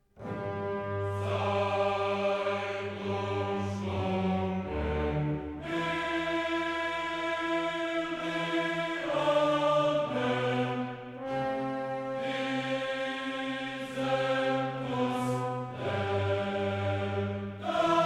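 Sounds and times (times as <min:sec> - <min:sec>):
choir singing sustained chords: 0:00.1 - 0:18.0.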